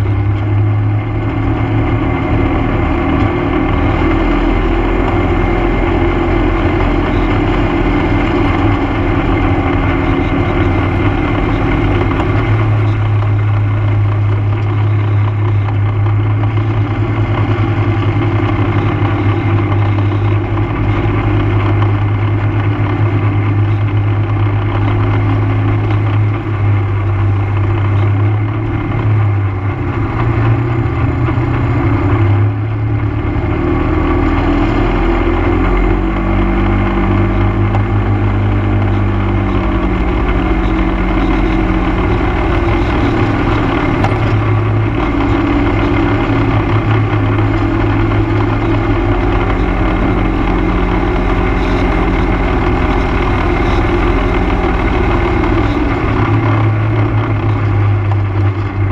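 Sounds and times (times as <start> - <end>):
atv engine running: 0.0 - 58.9
road and wind noise: 0.0 - 58.9.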